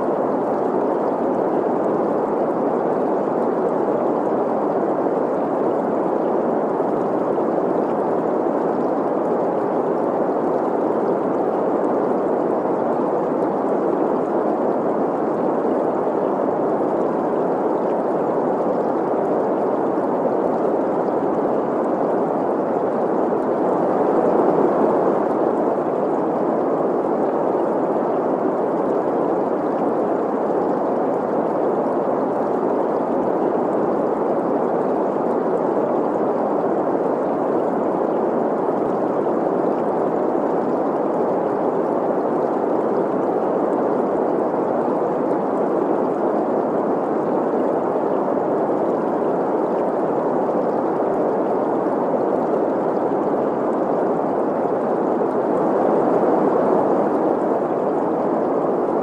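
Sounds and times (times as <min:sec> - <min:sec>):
steady green noise hiss: 0:00.0 - 0:59.0.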